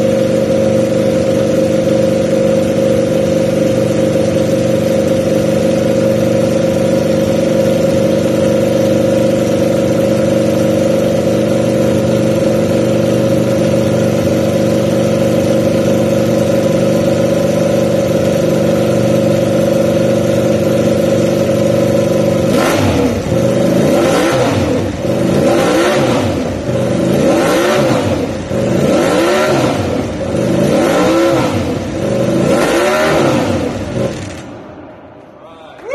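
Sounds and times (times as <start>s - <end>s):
motorcycle engine idling: 0.0s - 34.7s.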